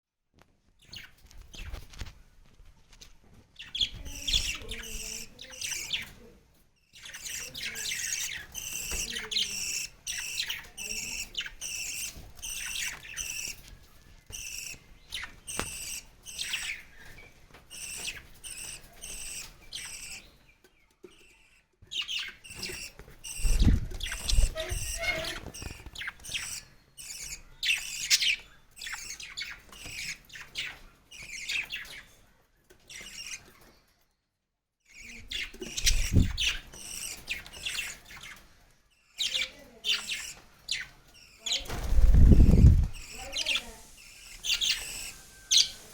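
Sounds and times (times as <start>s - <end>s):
baby bird chirping: 0.8s - 2.1s, 3.6s - 32.2s, 32.8s - 33.9s, 34.9s - 45.9s.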